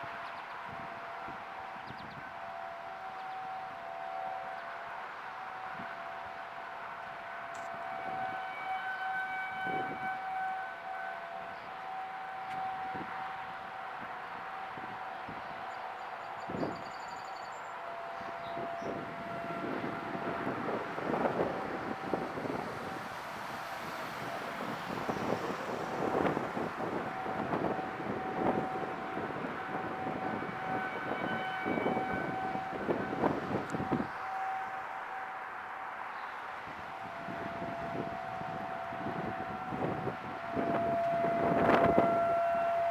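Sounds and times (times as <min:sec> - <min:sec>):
wind buffeting microphone: 0:00.0 - 0:03.7, 0:07.6 - 0:17.0, 0:17.9 - 0:35.2, 0:36.1 - 0:42.9
warning siren wailing: 0:00.0 - 0:42.9.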